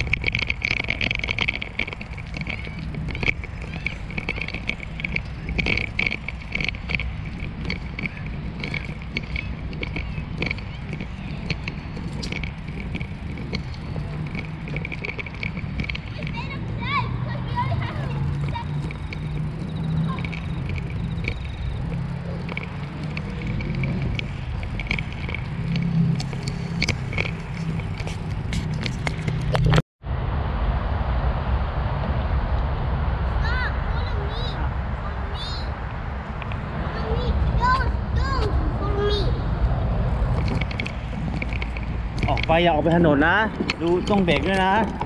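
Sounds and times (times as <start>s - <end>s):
bicycle tyres rolling: 0.0s - 29.8s, 32.0s - 45.0s
wind on microphone: 0.0s - 45.0s.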